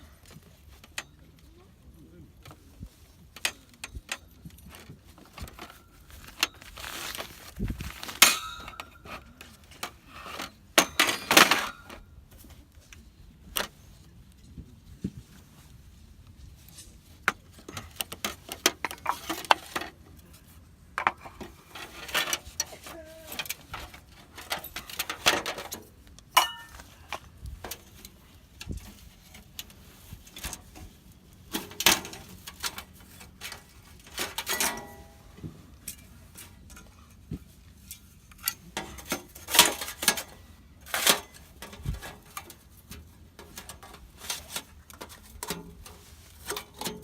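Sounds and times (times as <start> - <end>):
camping gear clinking on metal table: 3.3 - 12.5, 16.8 - 20.2, 20.9 - 47.0.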